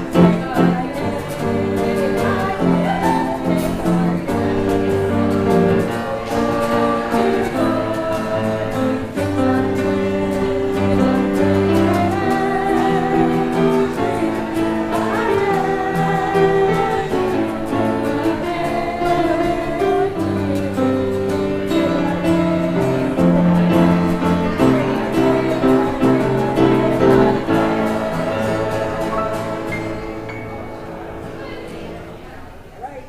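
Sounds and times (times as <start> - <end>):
church music held chords: 0.0 - 32.7.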